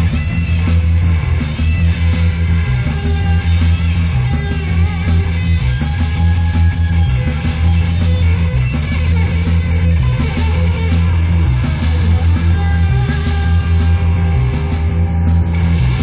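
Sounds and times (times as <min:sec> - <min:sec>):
electric guitar playing: 0:00.0 - 0:16.0
loud bass line: 0:00.0 - 0:16.0.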